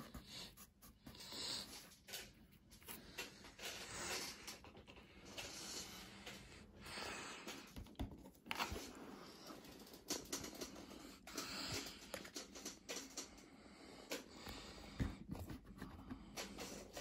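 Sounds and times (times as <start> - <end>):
hands handling plastic toy: 0.0 - 13.4, 14.1 - 17.0.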